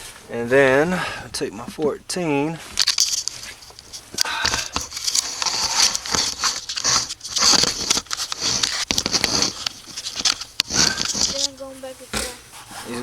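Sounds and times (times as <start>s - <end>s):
crinkling and scraping handling: 1.5s - 13.0s.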